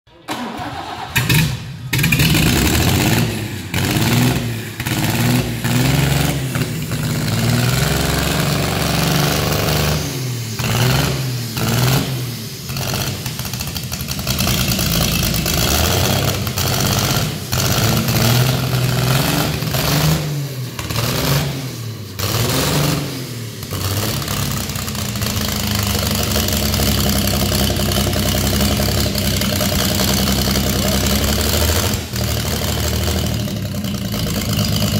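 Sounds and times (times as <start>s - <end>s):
engine revving up and down: 1.1s - 33.6s.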